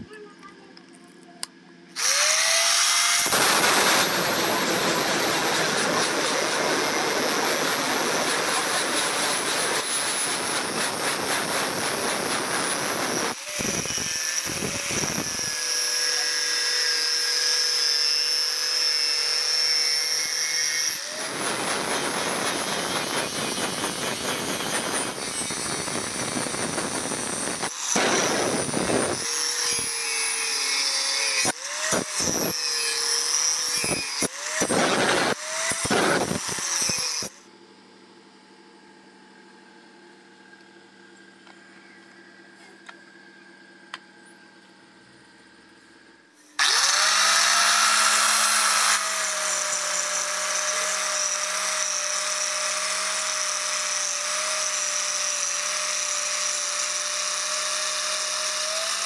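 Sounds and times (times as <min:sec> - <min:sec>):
angle grinder motor whine: 0:01.9 - 0:37.5, 0:46.0 - 0:59.0
grinding steel rasping hiss: 0:02.1 - 0:37.4, 0:46.4 - 0:59.0.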